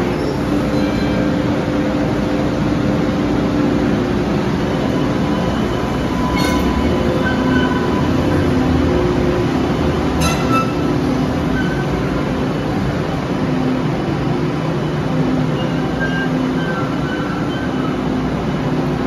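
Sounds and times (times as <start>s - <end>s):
light rail train rolling past: 0.0s - 19.0s.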